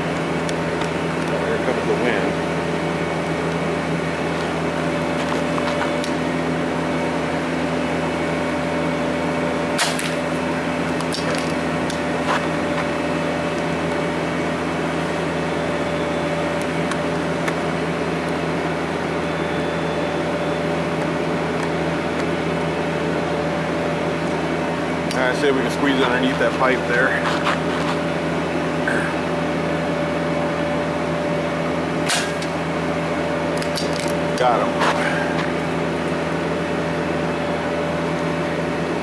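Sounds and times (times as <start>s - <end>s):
steady machine hum: 0.0s - 39.0s.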